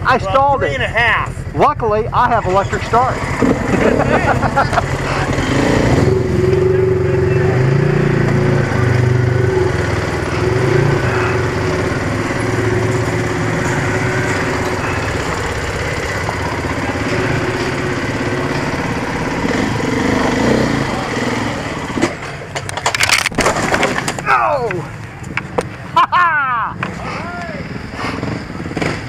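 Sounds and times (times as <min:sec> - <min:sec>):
dirt bike engine revving: 0:00.0 - 0:23.3, 0:27.6 - 0:29.0.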